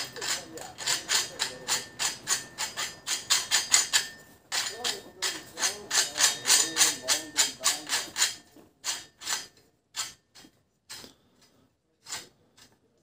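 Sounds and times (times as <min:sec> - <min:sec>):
nut scraping on threaded rod: 0:00.0 - 0:11.1, 0:12.0 - 0:12.7.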